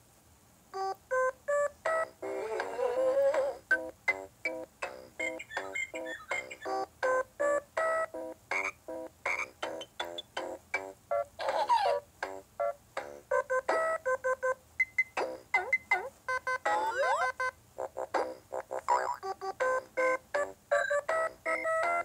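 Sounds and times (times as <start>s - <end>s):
electronic toy melody: 0.8s - 12.0s, 12.6s - 22.0s.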